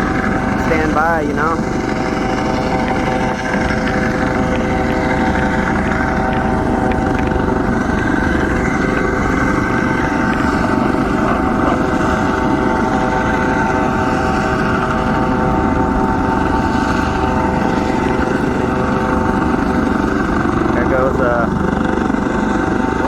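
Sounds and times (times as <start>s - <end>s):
helicopter hovering: 0.0s - 23.0s.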